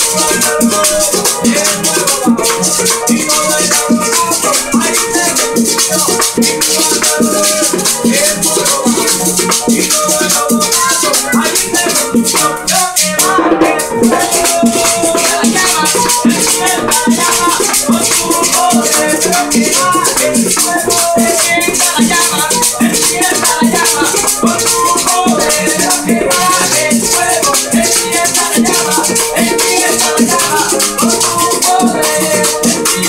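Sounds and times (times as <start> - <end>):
acoustic guitar: 0.0 - 33.0
hand percussion rattling: 0.0 - 33.0.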